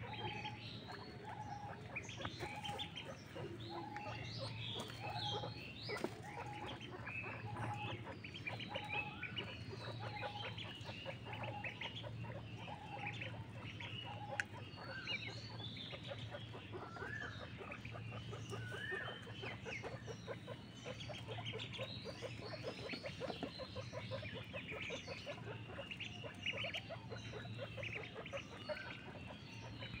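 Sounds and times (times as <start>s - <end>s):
ducklings peeping: 0.0s - 30.0s.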